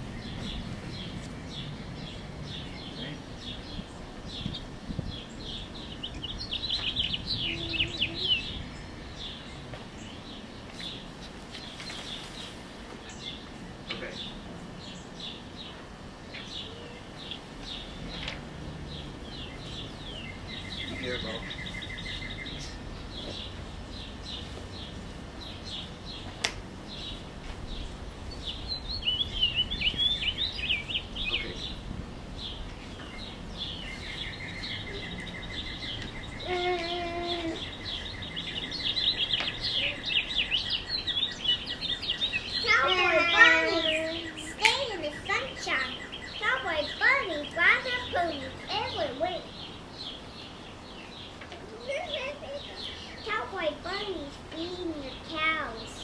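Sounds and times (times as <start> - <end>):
outdoor background noise: 0.0 - 56.0
small birds chirping: 0.0 - 56.0.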